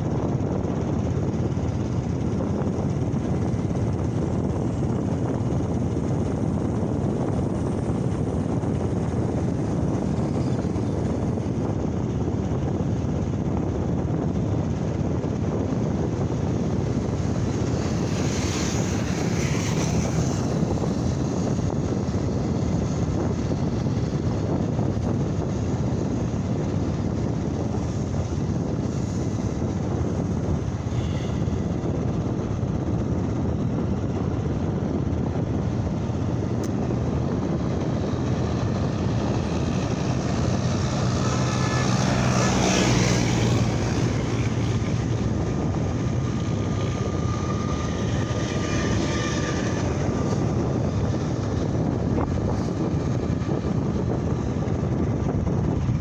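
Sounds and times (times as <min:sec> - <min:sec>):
motorcycle engine running: 0:00.0 - 0:56.0
passing vehicles: 0:00.0 - 0:56.0
road noise: 0:00.0 - 0:56.0
wind rushing: 0:00.0 - 0:56.0.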